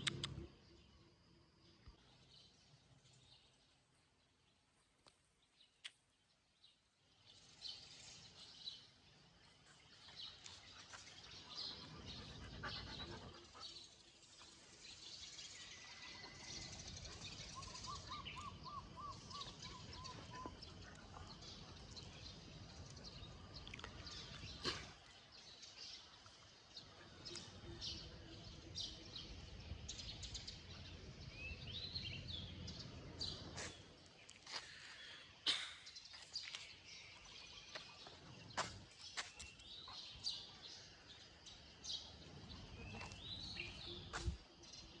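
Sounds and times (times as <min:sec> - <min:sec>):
birds chirping: 0:05.4 - 0:45.0.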